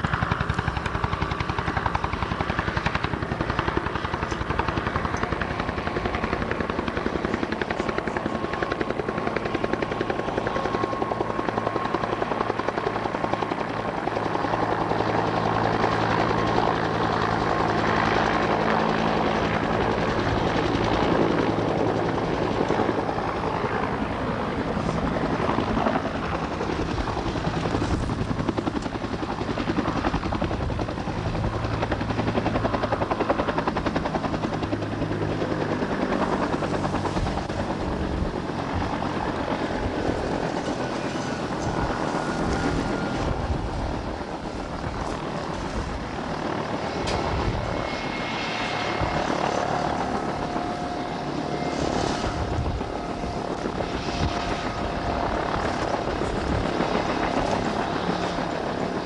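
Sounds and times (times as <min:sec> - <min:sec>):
helicopter rotor chop: 0:00.0 - 0:59.0
helicopter turbine whine: 0:00.0 - 0:59.0.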